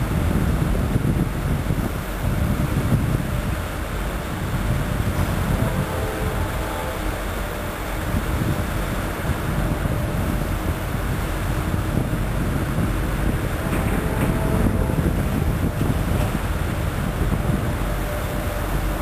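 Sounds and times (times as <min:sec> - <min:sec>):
diesel locomotives rumbling: 0:00.0 - 0:19.0
wind buffeting microphone: 0:00.0 - 0:19.0.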